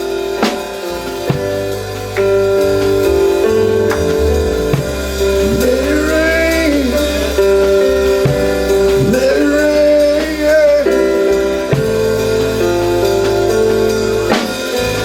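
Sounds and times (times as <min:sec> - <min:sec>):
sliding melody line: 0:00.0 - 0:15.0
sustained keyboard chords: 0:00.0 - 0:15.0.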